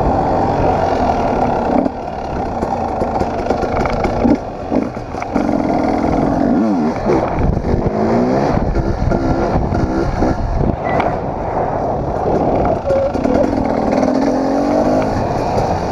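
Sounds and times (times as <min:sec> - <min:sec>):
dirt bike engine revving: 0:00.0 - 0:10.7, 0:12.2 - 0:15.9
wind rumble on microphone: 0:00.0 - 0:15.9.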